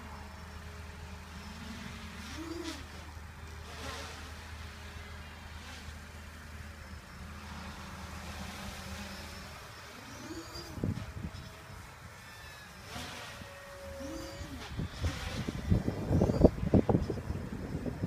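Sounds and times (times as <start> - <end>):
quadcopter propellers buzzing: 0.0 - 18.0.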